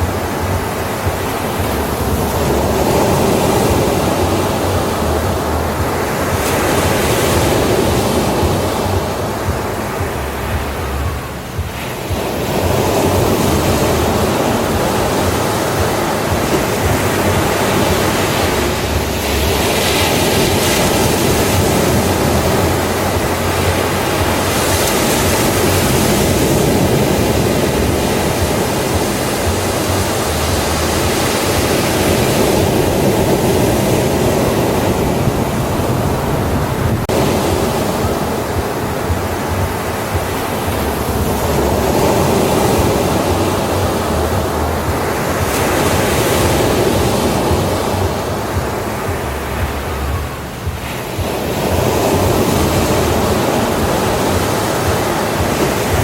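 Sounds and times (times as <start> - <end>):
ocean waves breaking on a beach: 0.0 - 56.0.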